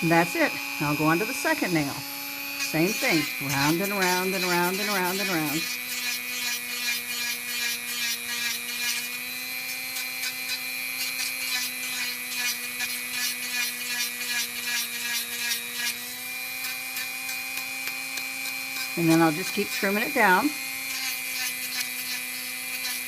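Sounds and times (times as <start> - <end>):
rotary tool whining: 0.0 - 23.0
sanding drum rasping toenail: 0.0 - 23.0.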